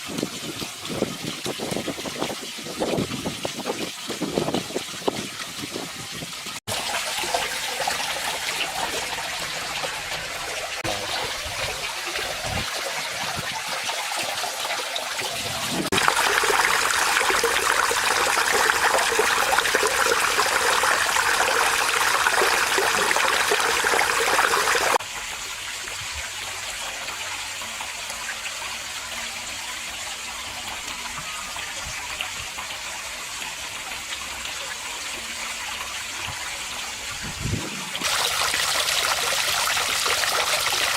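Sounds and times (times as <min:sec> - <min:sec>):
waterfall splashing into pond: 0:00.0 - 0:40.9.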